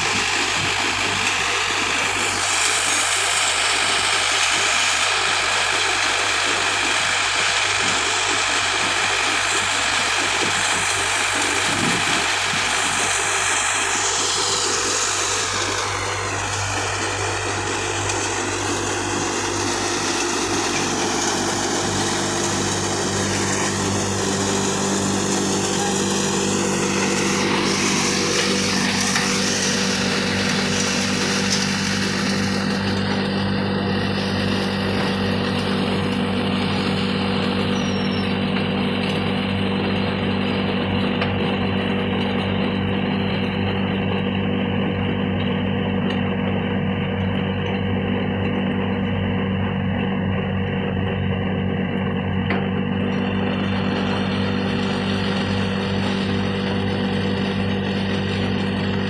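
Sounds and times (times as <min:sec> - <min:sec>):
deeper hum: 0:00.0 - 0:59.0
thresher mechanical hum and hiss: 0:00.0 - 0:59.0
tractor engine: 0:00.0 - 0:59.0.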